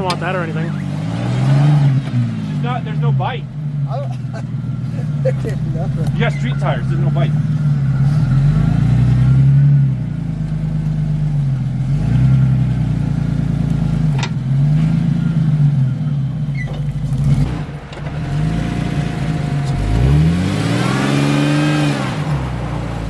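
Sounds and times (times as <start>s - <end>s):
engine revving: 0.0s - 23.0s.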